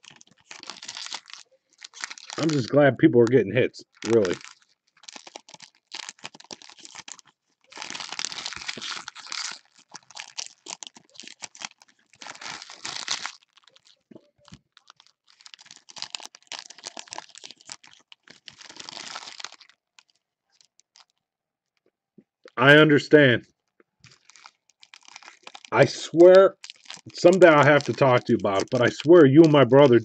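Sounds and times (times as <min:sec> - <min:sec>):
foil wrappers crinkling: 0:00.0 - 0:21.2, 0:23.5 - 0:30.0.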